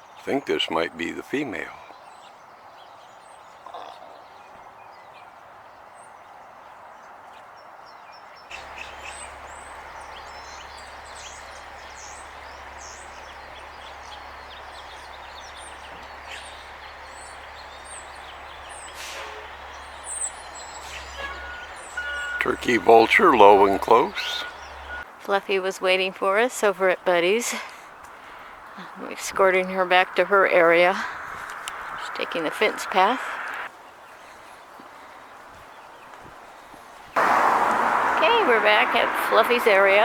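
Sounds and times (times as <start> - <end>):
small birds chirping: 0.0 - 40.0
steady outdoor hiss: 0.0 - 40.0.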